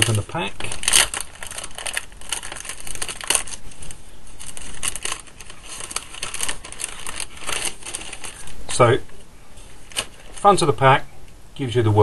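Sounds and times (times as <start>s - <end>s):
plastic packaging crinkling: 0.0s - 8.8s, 9.7s - 10.6s.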